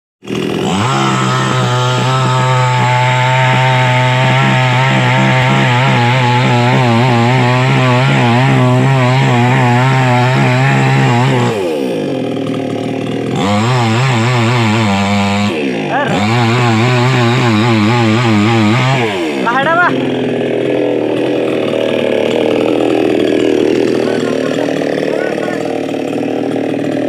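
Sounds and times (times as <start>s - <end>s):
chainsaw cutting wood: 0.2s - 27.0s.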